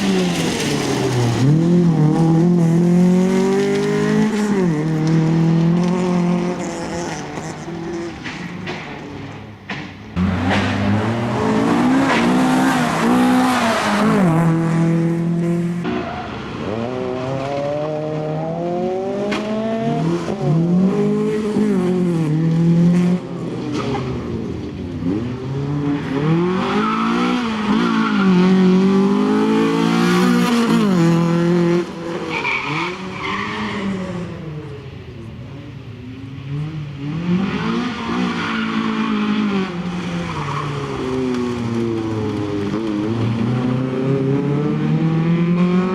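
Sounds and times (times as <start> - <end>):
rally car engine revving: 0.0 - 9.4, 10.1 - 34.9, 36.3 - 45.9.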